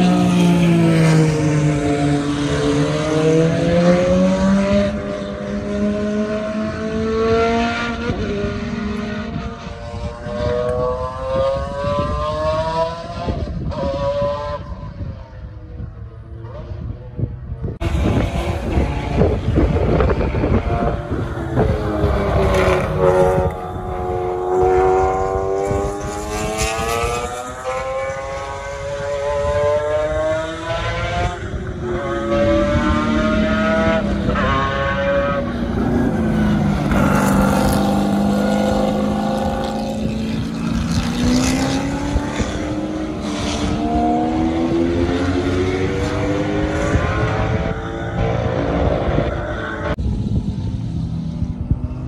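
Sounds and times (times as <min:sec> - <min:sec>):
race car engines at full throttle: 0:00.0 - 0:52.0.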